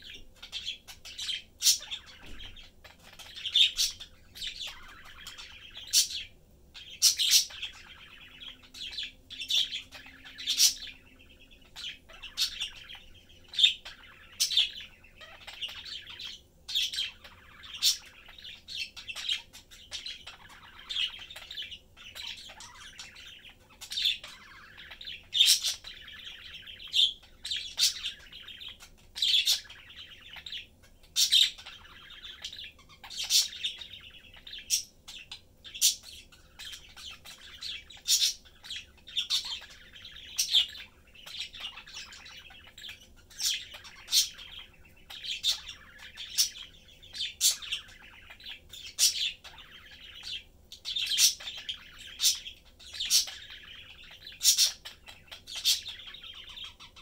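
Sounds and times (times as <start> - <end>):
budgerigar chirps: 0.0 - 57.0
budgerigars warbling: 0.0 - 57.0.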